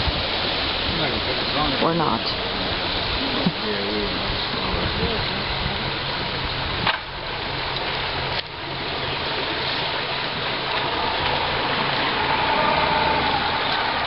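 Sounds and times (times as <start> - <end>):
boat motor humming: 0.0 - 14.0
water rushing: 0.0 - 14.0
wind: 0.0 - 14.0.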